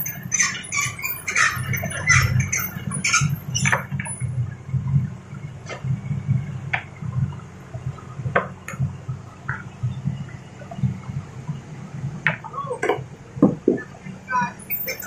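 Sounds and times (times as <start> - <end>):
diesel engine running low: 0.0 - 15.0.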